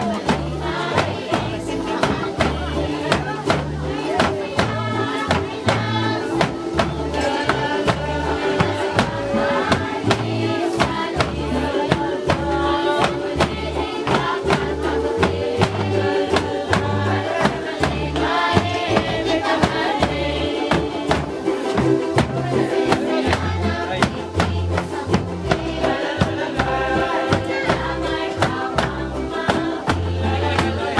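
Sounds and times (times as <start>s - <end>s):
bass line: 0.0s - 30.9s
steady drumbeat: 0.0s - 30.9s
voices singing together: 0.0s - 30.9s.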